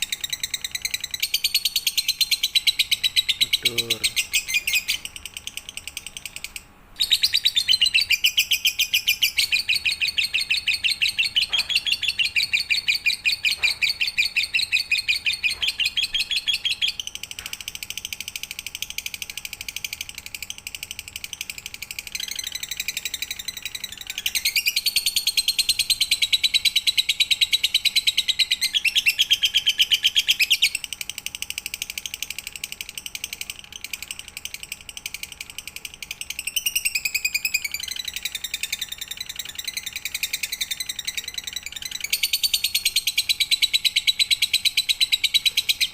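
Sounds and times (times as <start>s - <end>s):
bird chattering trill: 0.0s - 45.9s.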